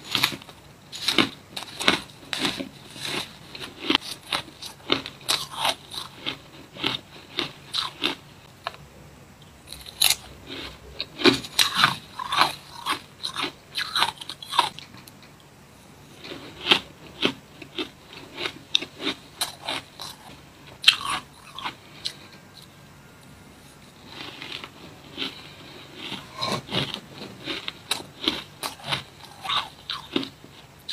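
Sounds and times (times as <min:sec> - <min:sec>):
person chewing shaved ice: 0:00.0 - 0:08.8, 0:09.7 - 0:15.2, 0:16.1 - 0:30.9.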